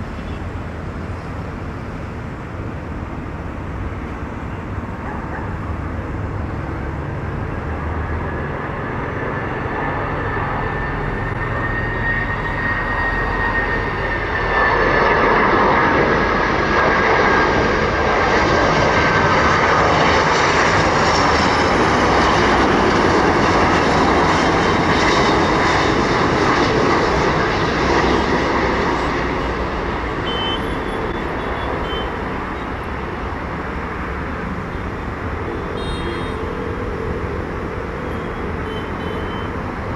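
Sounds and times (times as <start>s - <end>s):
jet airliner engines whining: 0.0s - 39.9s.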